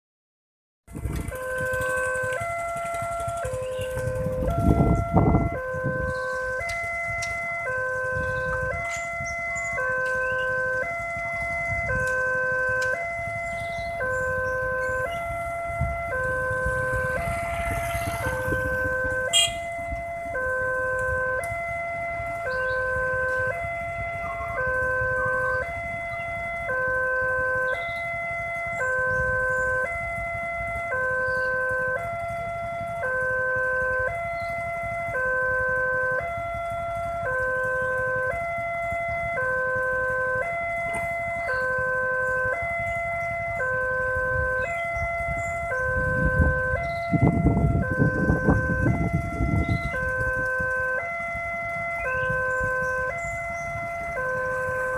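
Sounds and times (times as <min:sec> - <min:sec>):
level crossing warning alarm: 0:00.9 - 0:54.9.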